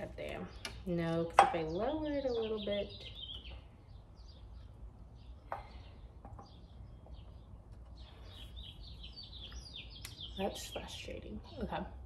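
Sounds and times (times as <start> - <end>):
faint bird chirps: 1.8 - 12.0.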